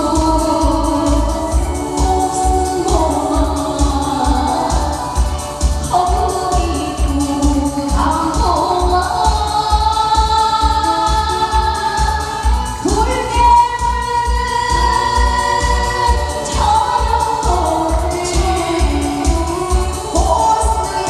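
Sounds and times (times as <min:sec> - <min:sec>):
backing track with bass beat: 0:00.0 - 0:21.0
woman singing: 0:00.0 - 0:21.0.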